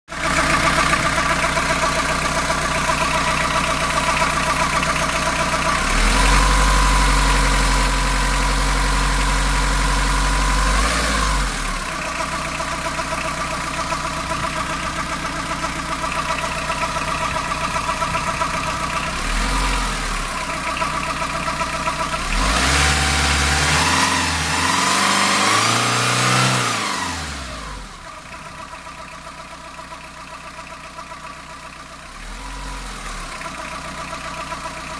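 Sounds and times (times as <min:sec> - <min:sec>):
van engine idling: 0:00.1 - 0:34.9.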